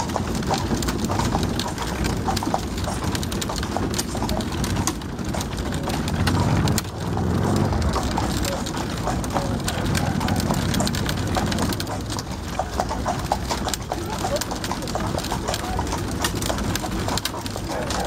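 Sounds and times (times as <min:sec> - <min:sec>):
horse hooves clip-clopping: 0:00.0 - 0:18.0
wheels rumbling on road: 0:00.0 - 0:18.0.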